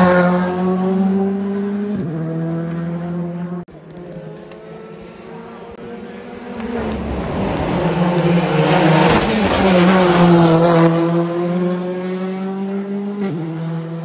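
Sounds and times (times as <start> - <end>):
rally car engine passing: 0.0 - 14.0.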